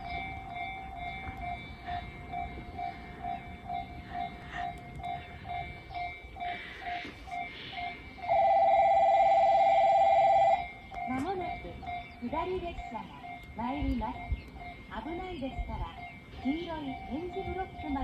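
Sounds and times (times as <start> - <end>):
level crossing warning bell pulsing: 0.0 - 18.0
loud continuous ringing alarm bell: 0.0 - 18.0.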